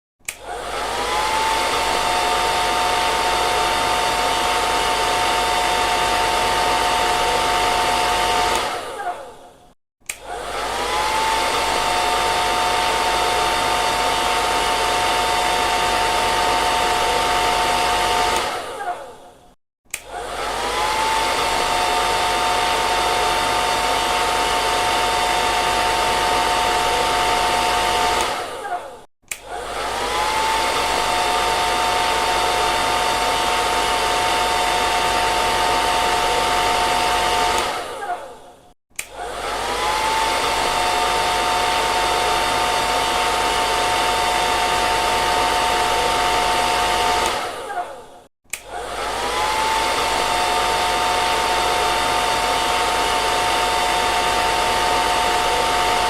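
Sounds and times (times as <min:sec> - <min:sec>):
hair dryer blowing: 0:00.2 - 0:56.0.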